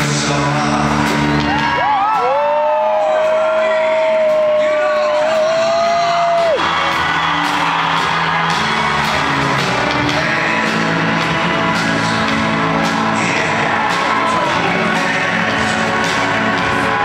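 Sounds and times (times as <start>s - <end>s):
music with steady beat over speakers: 0.0s - 17.0s.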